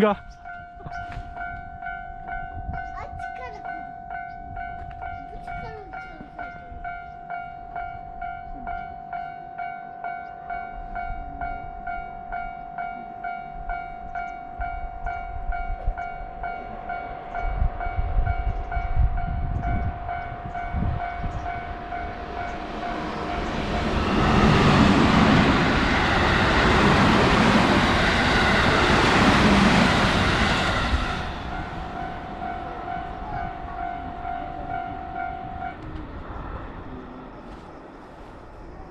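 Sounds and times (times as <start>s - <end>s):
train passing: 0.0s - 38.9s.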